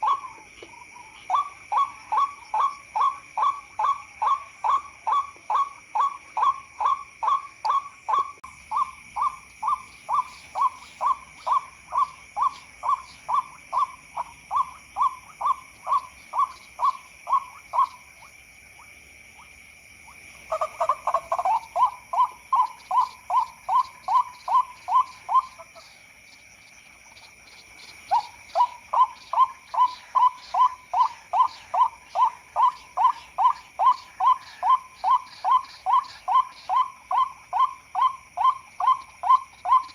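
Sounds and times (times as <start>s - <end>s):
waterhen calling: 0.0s - 26.0s, 27.8s - 39.9s.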